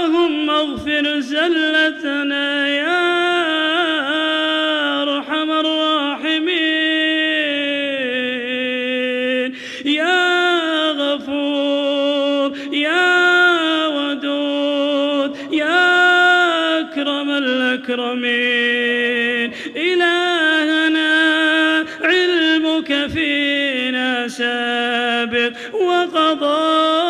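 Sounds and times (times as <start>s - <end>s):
man chanting unaccompanied: 0.0s - 27.0s.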